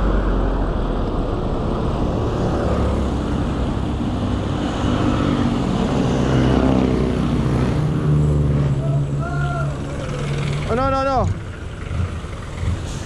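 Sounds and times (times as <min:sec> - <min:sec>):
passing car engines: 0:00.0 - 0:13.0.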